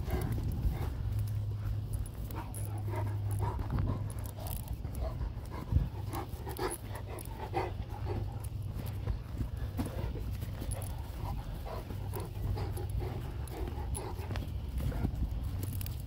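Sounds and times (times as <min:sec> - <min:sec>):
dog panting: 0:00.0 - 0:16.0
steady low rumble: 0:00.0 - 0:16.0.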